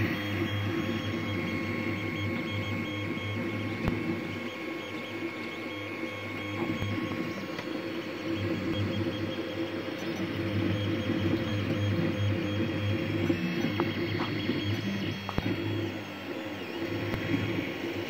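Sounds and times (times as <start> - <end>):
cooling fans humming: 0.0 - 18.0
stepper motors whining: 0.0 - 18.0.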